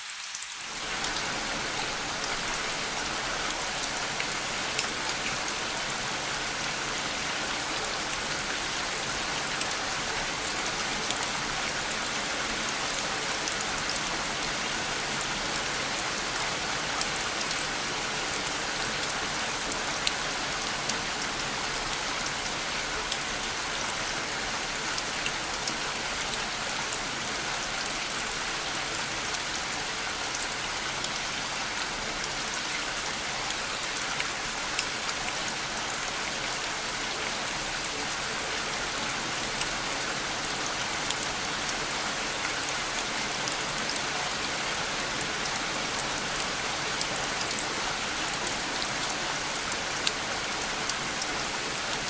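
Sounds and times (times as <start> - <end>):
rain drops pattering: 0.0 - 52.0.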